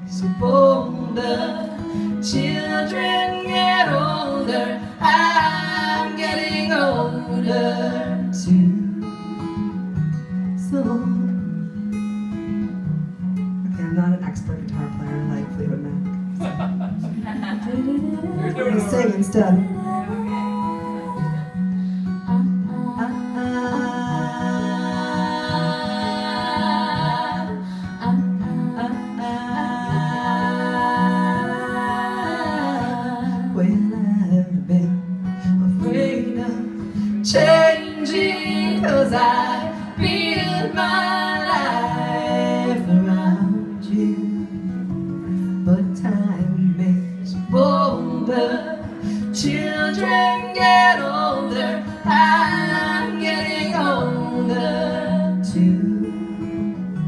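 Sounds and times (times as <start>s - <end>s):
woman singing wordless melody: 0.0s - 9.8s, 10.4s - 11.6s, 17.2s - 56.8s
acoustic guitar: 0.0s - 57.0s.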